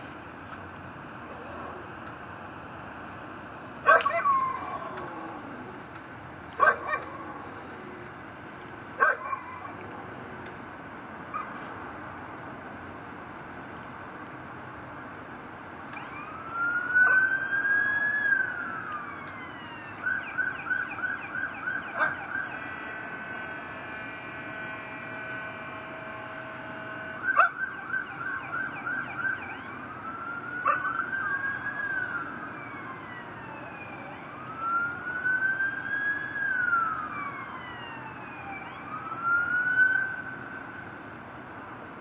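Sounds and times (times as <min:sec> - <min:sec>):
emergency vehicle siren: 0:01.0 - 0:12.4, 0:15.8 - 0:41.5.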